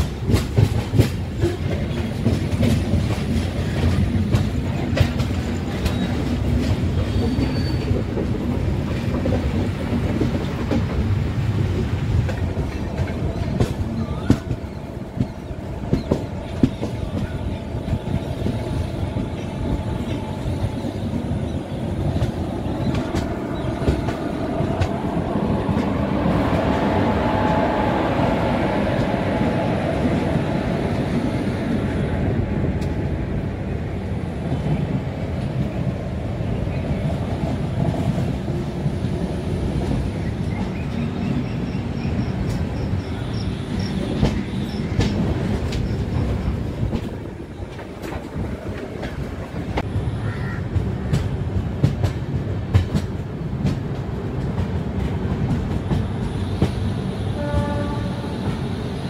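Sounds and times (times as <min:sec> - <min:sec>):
train coach rumbling: 0:00.0 - 0:59.0.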